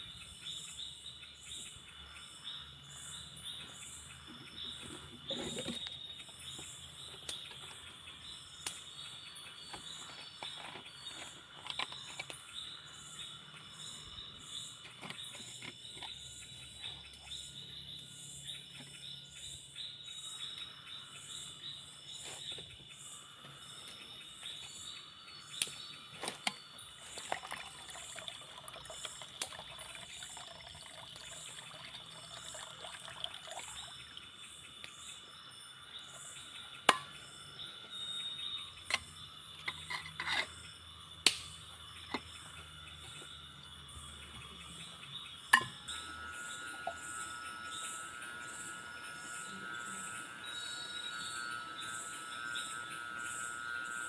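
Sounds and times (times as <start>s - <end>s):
insect pulsing chirp: 0.0s - 54.0s
insects buzzing drone: 0.0s - 54.0s.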